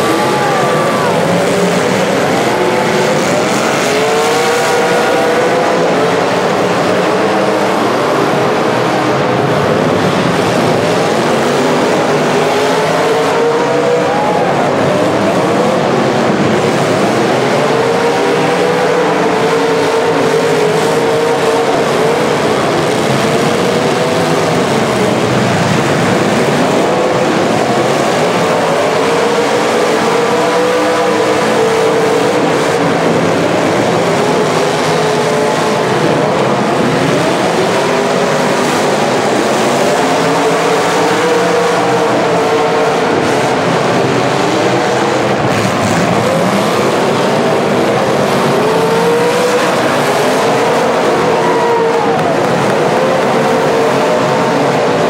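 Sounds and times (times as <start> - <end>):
car engines revving hard: 0.0 - 55.0.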